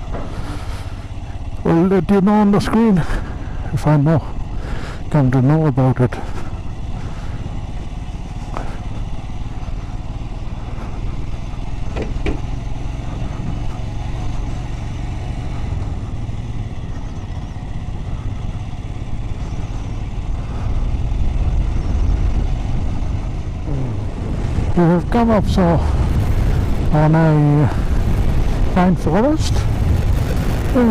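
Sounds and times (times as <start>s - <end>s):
motorcycle engine rumbling: 0.0s - 30.9s.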